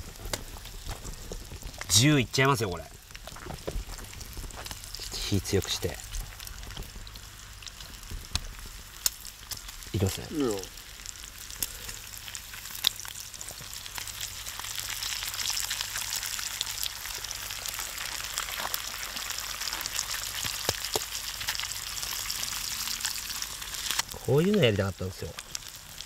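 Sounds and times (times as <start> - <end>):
bacon sizzling: 0.0 - 26.0
pops and crackles: 0.0 - 26.0.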